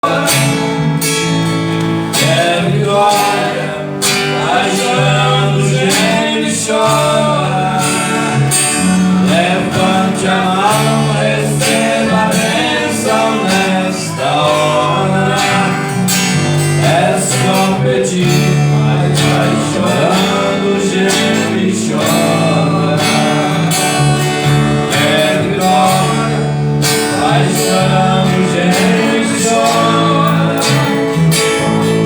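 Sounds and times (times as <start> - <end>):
strummed guitar: 0.0 - 32.0.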